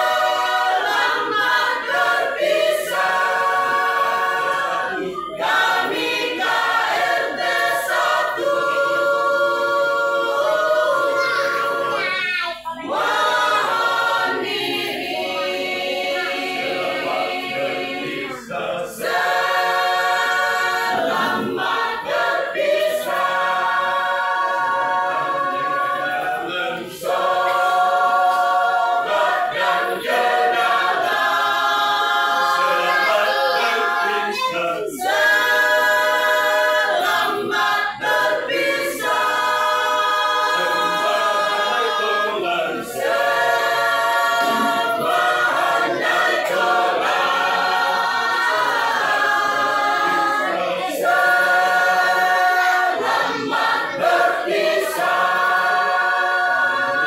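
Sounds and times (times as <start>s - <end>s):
mixed choir singing a cappella: 0.0s - 57.0s.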